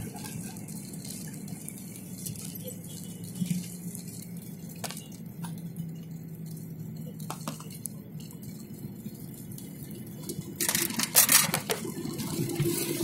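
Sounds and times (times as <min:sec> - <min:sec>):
low engine hum: 0:00.0 - 0:10.8.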